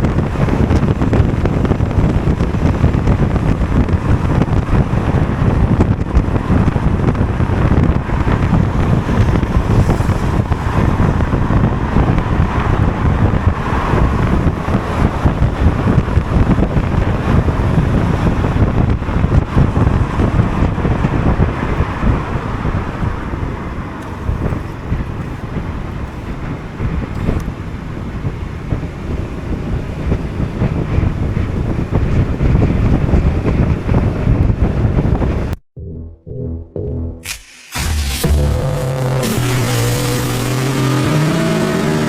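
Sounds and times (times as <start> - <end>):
road noise: 0.0 - 35.6, 37.8 - 42.0
wind buffeting microphone: 0.0 - 35.6, 38.5 - 42.0.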